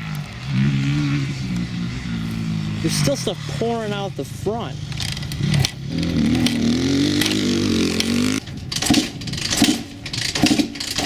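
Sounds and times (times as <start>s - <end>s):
dirt bike engine running unevenly: 0.0s - 11.0s.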